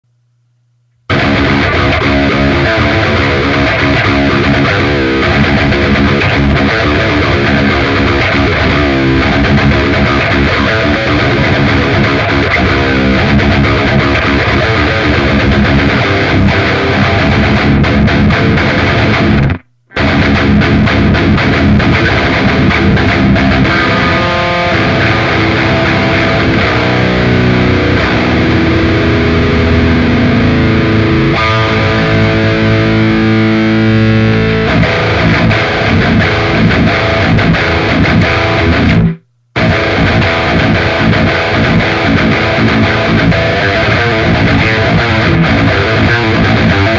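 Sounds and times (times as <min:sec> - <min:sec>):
distorted electric guitar riffing: 0:01.0 - 0:46.9.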